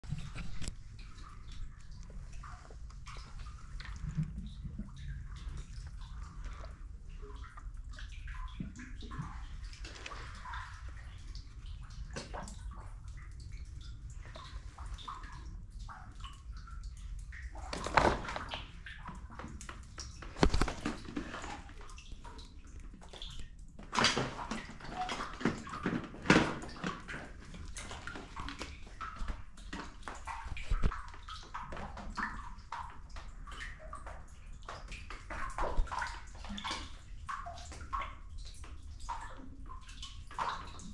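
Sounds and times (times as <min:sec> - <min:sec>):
water dripping: 0:00.0 - 0:40.9
water lapping: 0:00.0 - 0:40.9
water splashes: 0:00.0 - 0:40.9.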